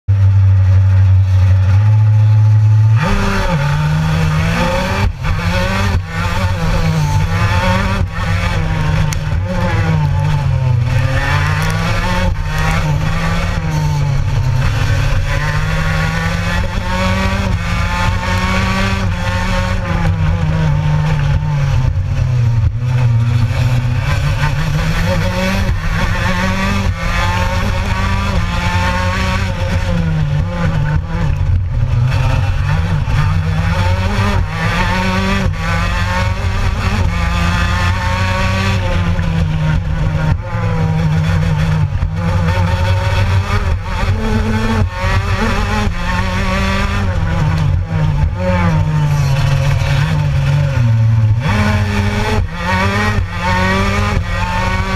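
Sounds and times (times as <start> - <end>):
racing kart engine revving: 0.1 - 54.9.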